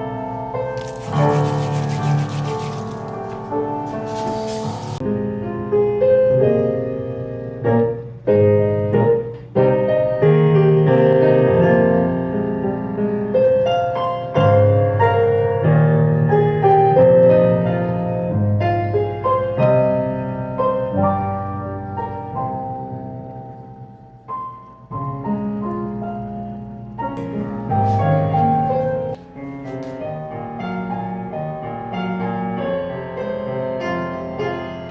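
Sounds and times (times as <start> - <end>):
soft piano music: 0.0 - 34.9.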